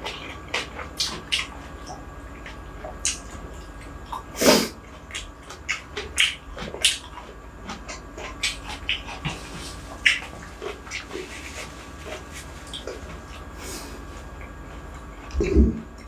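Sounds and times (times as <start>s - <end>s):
wet chewing and lip-smacking: 0.0s - 13.5s, 14.2s - 16.0s.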